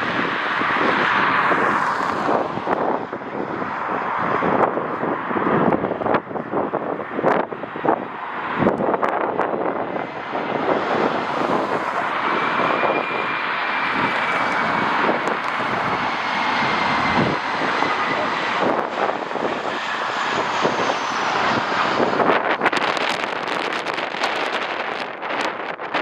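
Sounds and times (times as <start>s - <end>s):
jet engines rushing and whining: 0.0s - 26.0s
wind buffeting microphone: 0.0s - 26.0s.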